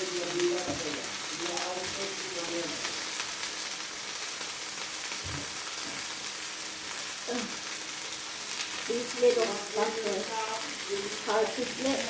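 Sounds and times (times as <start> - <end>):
quail frying in hot oil: 0.0 - 12.0.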